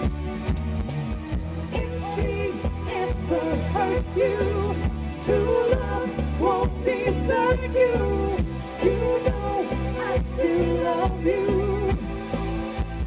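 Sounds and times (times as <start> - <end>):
live pop band playing: 0.0 - 13.0
steady bass line: 0.0 - 13.0.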